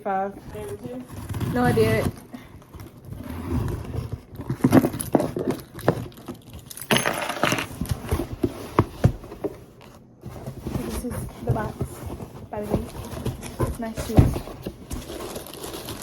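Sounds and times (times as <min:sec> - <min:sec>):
cardboard rustling: 0:00.4 - 0:06.8, 0:07.4 - 0:16.0.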